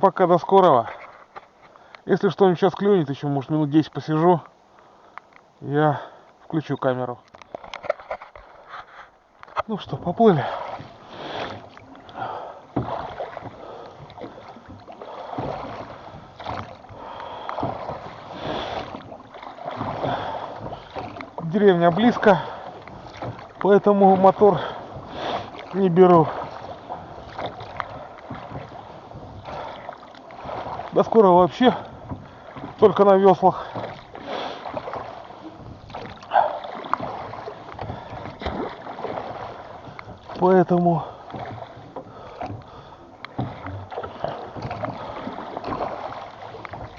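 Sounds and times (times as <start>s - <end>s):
oars pulling through water: 0.0s - 46.9s
water splashing: 0.0s - 46.9s.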